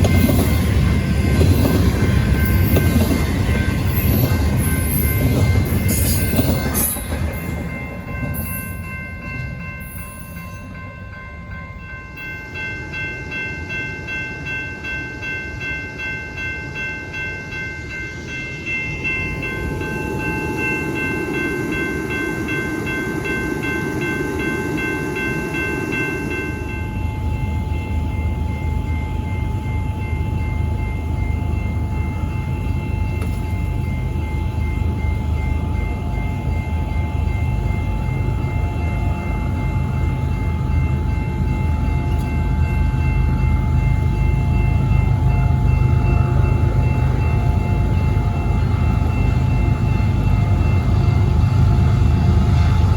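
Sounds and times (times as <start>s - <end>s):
pulsing high ringing tones: 0.0s - 52.9s
train passing: 0.0s - 52.9s.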